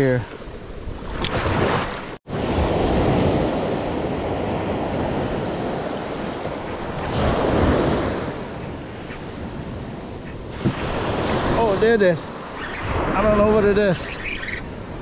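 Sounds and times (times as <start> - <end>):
surf waves breaking on sand: 0.0 - 14.3
wind rumbling on microphone: 0.0 - 15.0.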